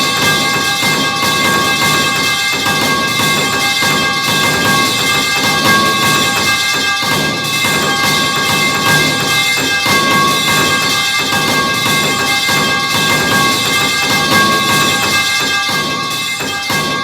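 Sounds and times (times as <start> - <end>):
high metallic ringing: 0.0 - 17.0.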